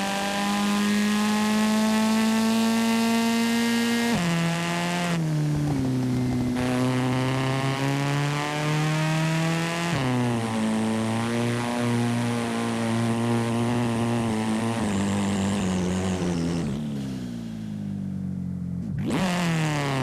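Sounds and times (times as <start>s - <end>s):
video game car engine revving: 0.0s - 17.8s, 18.7s - 20.0s.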